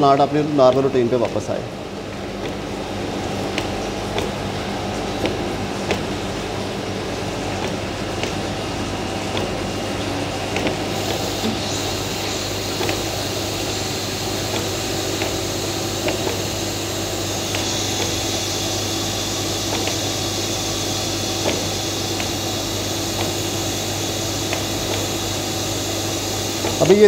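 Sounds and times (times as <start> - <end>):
pump and motor hum: 0.0 - 27.0.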